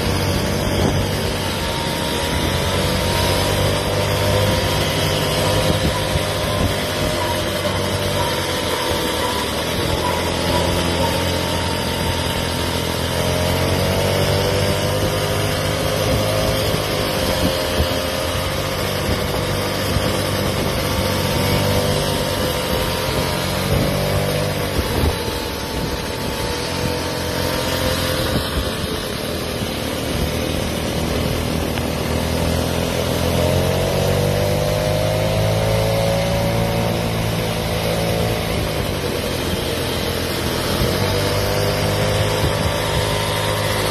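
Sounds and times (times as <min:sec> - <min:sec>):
scooter motor whining: 0:00.0 - 0:43.9
wind and road noise: 0:00.0 - 0:43.9.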